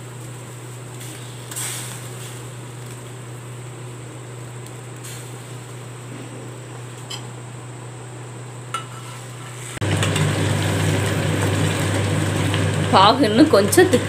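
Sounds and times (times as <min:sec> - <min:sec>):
steady sizzle: 0:00.0 - 0:14.0.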